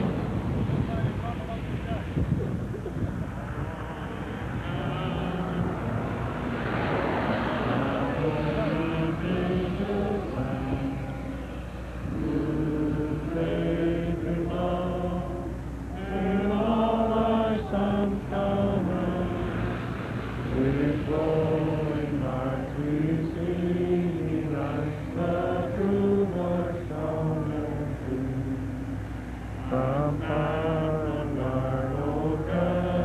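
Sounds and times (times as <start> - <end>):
crowd singing slowly: 0.0 - 0.7, 3.2 - 33.0.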